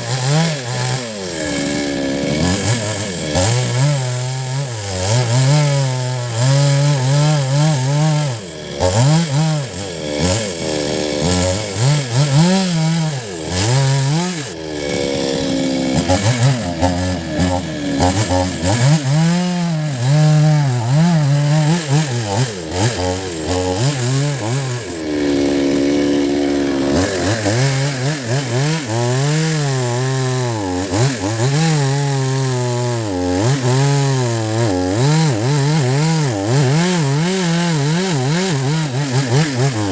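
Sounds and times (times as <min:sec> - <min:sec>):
chainsaw cutting roots: 0:00.0 - 0:39.9.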